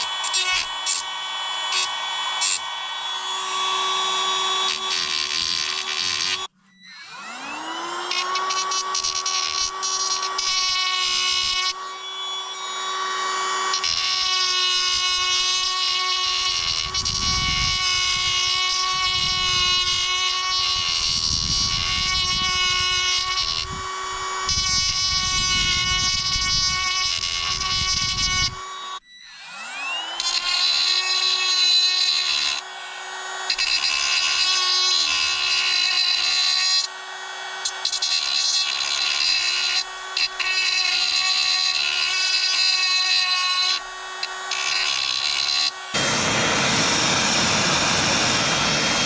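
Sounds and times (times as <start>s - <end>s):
power tool motor whining: 0.0s - 49.0s.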